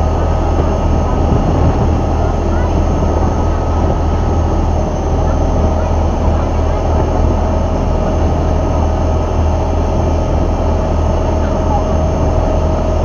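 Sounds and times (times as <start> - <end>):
boat engine droning: 0.0 - 13.0
water rushing along hull: 0.0 - 13.0.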